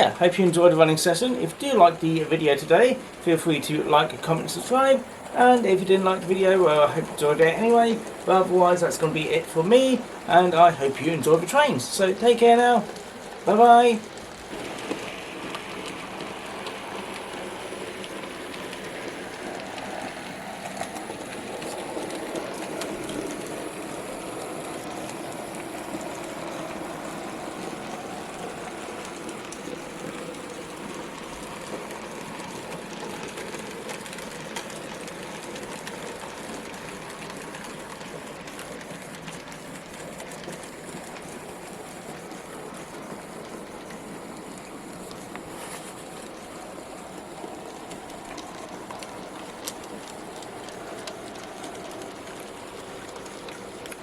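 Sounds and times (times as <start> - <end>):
model trains rolling: 0.0 - 54.0
wheels ticking over track: 0.0 - 54.0.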